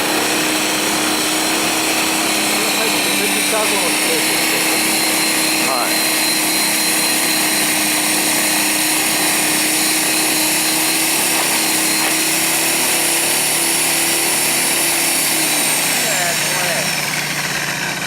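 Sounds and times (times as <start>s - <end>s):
electric snowblower motor whine: 0.0s - 18.0s.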